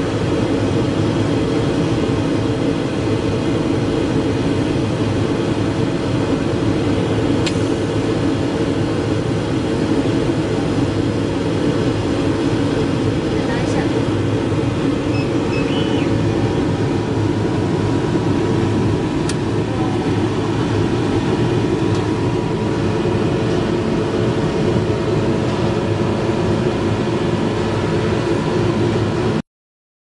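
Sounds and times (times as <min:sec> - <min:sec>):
laser cutting machine drone: 0:00.0 - 0:29.4.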